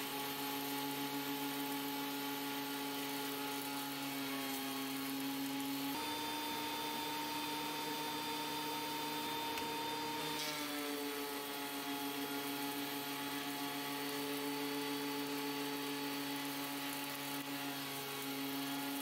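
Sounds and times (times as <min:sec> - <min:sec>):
thickness planer whining: 0:00.0 - 0:19.0.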